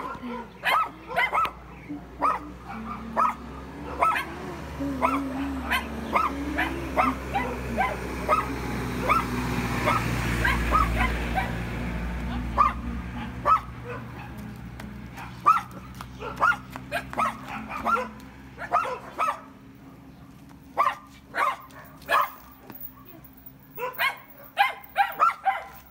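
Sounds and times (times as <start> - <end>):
dog barking in high yips: 0.0 - 4.4, 5.0 - 11.6, 12.6 - 14.4, 15.2 - 19.5, 20.8 - 25.9.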